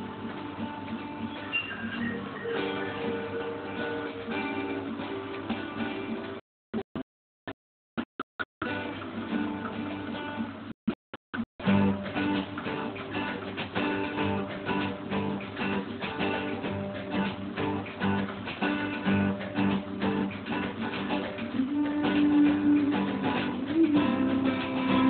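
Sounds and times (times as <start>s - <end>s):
acoustic guitar strumming chords: 0.0s - 6.4s, 8.6s - 10.7s, 11.6s - 25.0s.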